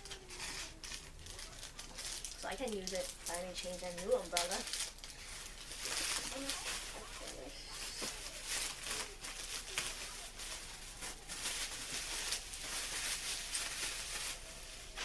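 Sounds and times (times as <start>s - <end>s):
packing paper rustling: 0.0s - 15.0s.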